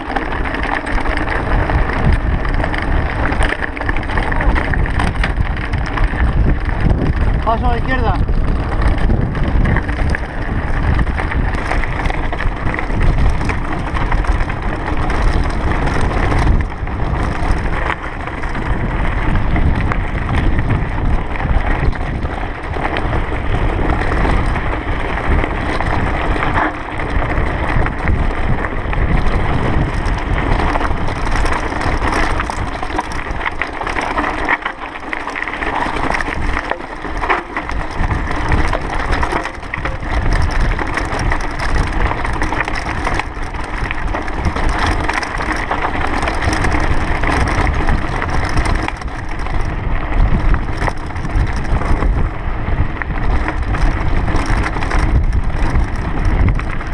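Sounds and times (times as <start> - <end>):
bike rattling and knocking: 0.0 - 56.9
tyres crunching over gravel: 0.0 - 56.9.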